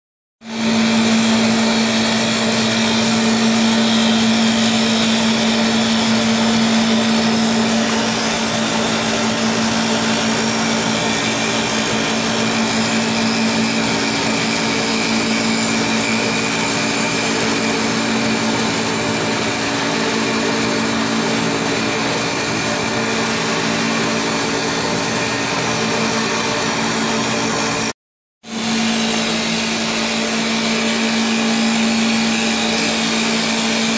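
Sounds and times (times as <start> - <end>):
wood lathe machine hum: 0.5 - 27.9, 28.5 - 33.9.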